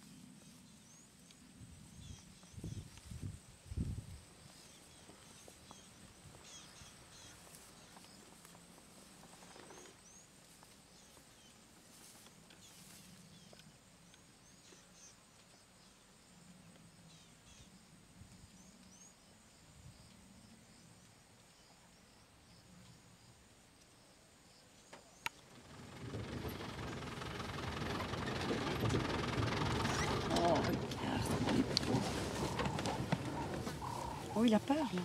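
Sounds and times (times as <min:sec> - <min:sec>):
faint bush ambience: 0:00.0 - 0:35.0.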